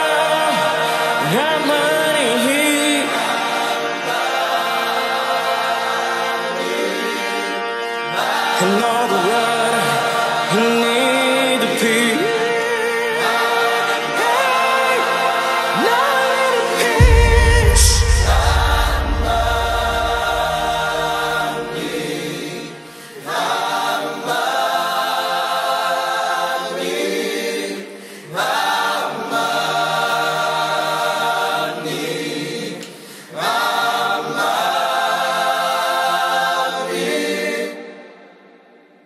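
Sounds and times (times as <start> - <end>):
choir singing a cappella: 0.0 - 39.0.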